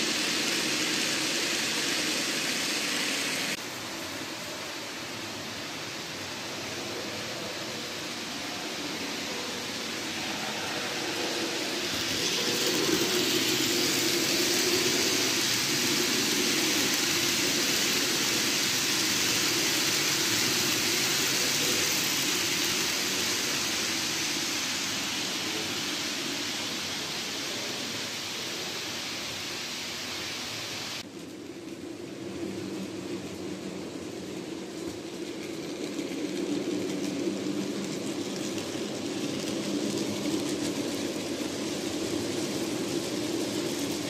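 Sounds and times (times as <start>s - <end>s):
model train whirring on track: 0.0s - 44.0s.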